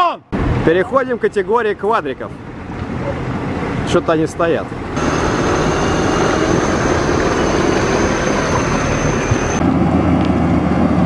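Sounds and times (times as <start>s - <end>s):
off-road vehicle engine: 0.4s - 11.0s.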